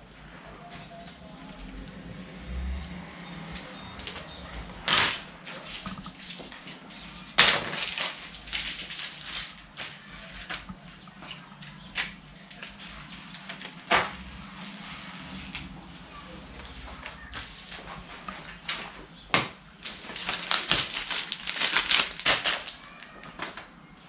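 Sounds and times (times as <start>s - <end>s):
vinyl sticker sheets rustling: 0.4s - 23.5s.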